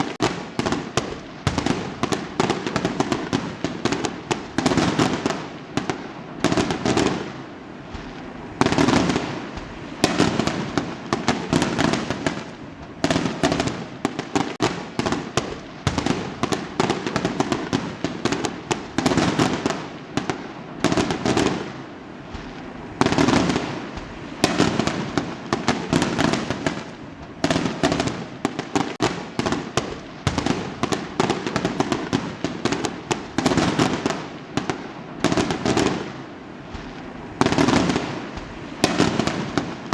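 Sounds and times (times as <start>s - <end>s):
fireworks exploding with crackle: 0.0s - 39.9s.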